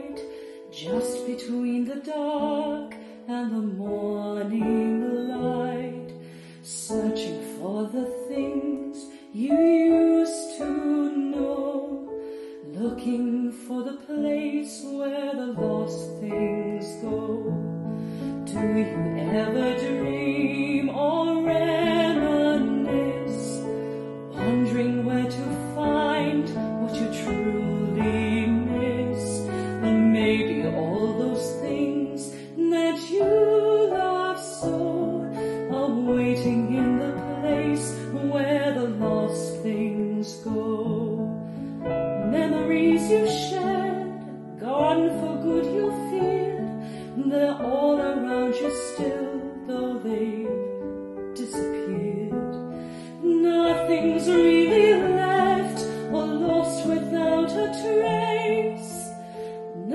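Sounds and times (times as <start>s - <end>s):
piano accompaniment: 0.0s - 59.9s
woman singing a slow ballad: 0.0s - 59.9s.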